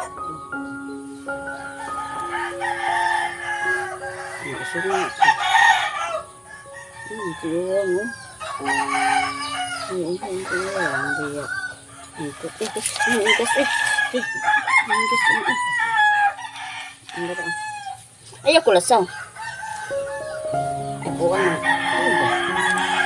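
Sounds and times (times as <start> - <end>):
hens clucking: 1.3 - 23.0
roosters crowing: 1.4 - 23.0.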